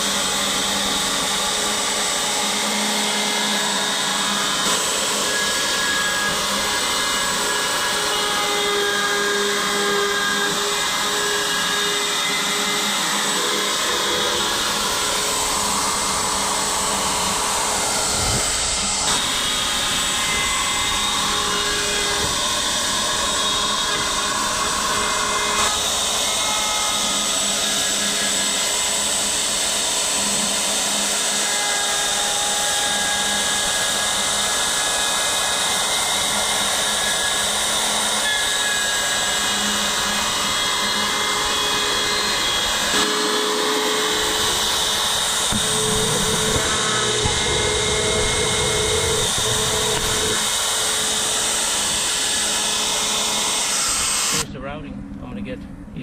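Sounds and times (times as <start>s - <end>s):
electric router routing wood: 0.0s - 54.5s.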